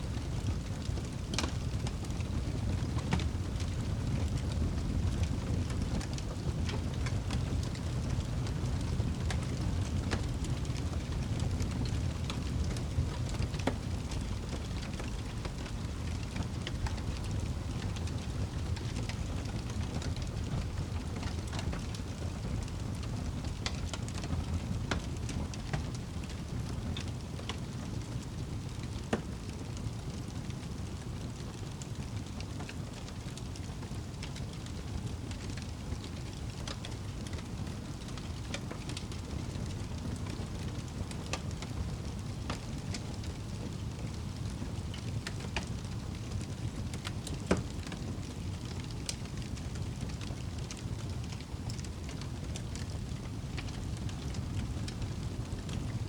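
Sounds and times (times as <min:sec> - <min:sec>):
fire crackling and popping: 0:00.0 - 0:56.0
flames rumbling: 0:00.0 - 0:56.0.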